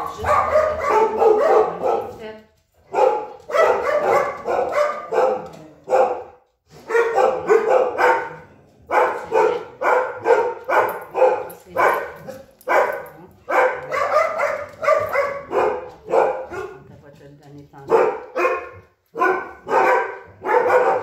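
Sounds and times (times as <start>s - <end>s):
dog barking: 0.0s - 2.2s, 2.8s - 16.9s, 17.9s - 21.0s.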